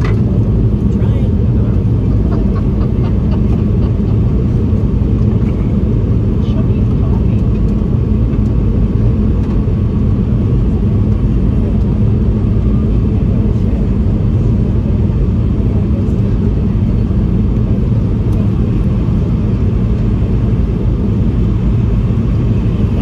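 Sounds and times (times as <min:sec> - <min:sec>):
aircraft engine rumble: 0:00.0 - 0:23.0.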